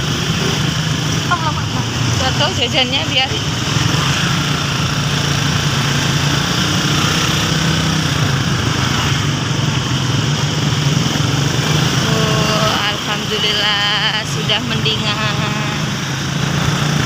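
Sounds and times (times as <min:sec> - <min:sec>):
road noise: 0:00.0 - 0:17.0
small motorcycle engine running: 0:00.0 - 0:17.0.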